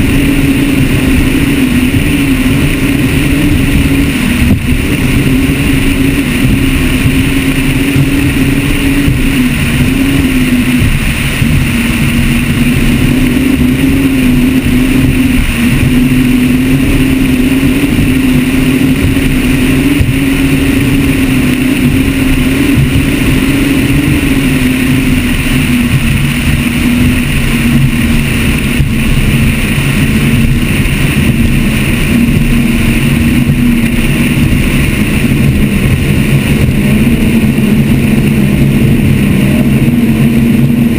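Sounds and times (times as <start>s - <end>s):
boat engines droning: 0.0s - 40.9s
wind and water rumble: 0.0s - 40.9s.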